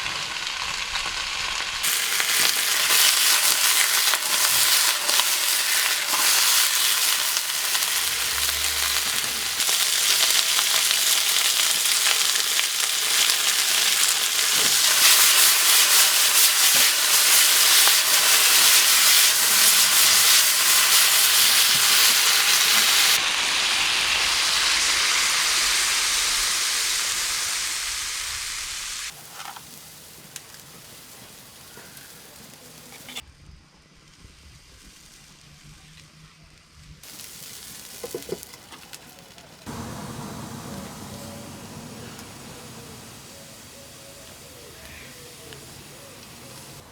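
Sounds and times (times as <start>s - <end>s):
chicken frying in hot oil: 0.0s - 33.2s, 37.0s - 46.9s.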